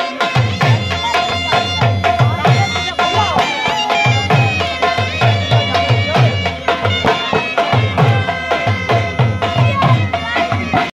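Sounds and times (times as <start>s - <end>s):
held melody line: 0.0s - 10.9s.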